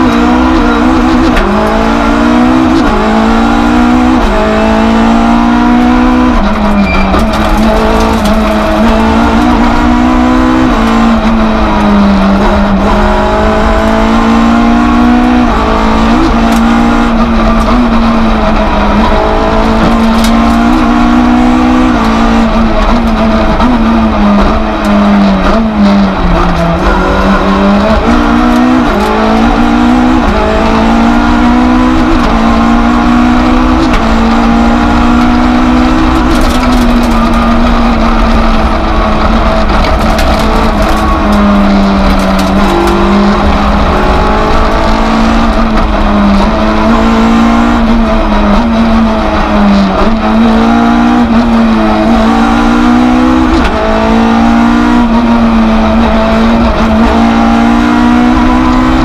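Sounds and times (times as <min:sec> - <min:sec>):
rally car engine revving hard: 0:00.0 - 0:59.0.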